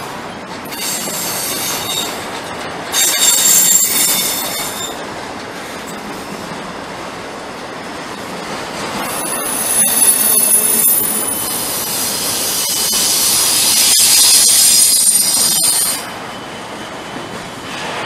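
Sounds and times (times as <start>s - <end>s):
train wheels squealing on rails: 0.0s - 6.7s, 8.9s - 18.0s
train rumble: 0.0s - 18.0s.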